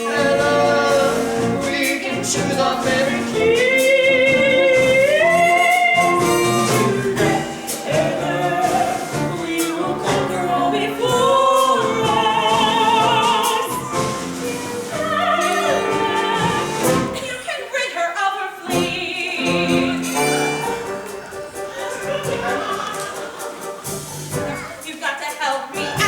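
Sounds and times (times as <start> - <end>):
instrumental accompaniment: 0.0 - 17.2, 18.7 - 26.0
stage musical singing: 0.0 - 24.6.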